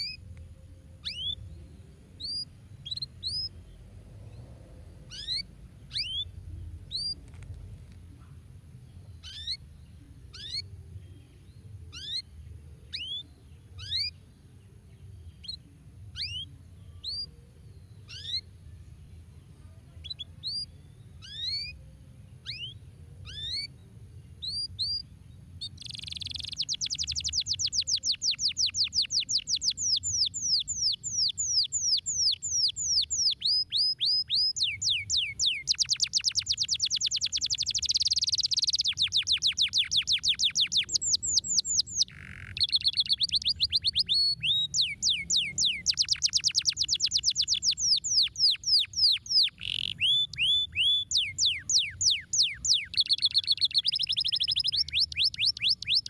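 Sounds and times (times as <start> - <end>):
canary singing: 0.0 - 7.6, 9.0 - 18.6, 20.0 - 23.8, 24.4 - 56.0.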